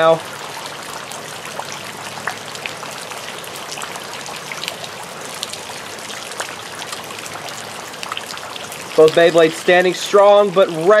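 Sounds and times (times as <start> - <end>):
raindrops ticking on surfaces: 0.0 - 11.0
steady rain: 0.0 - 11.0.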